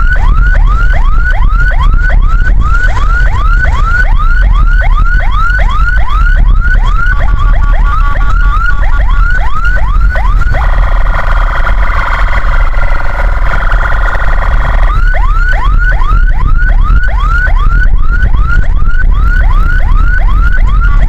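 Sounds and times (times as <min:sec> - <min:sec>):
ambulance siren yelping: 0:00.0 - 0:21.0
vehicle engine and road rumble: 0:00.0 - 0:21.0.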